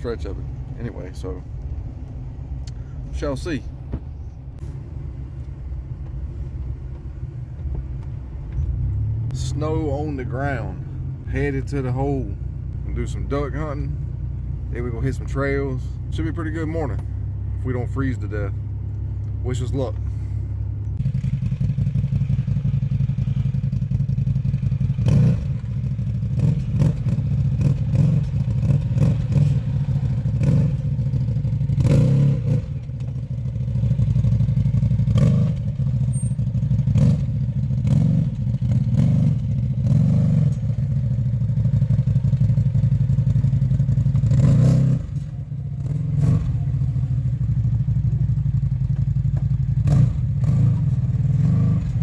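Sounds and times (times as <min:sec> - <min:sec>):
off-road vehicle engine running: 0:00.0 - 0:52.0.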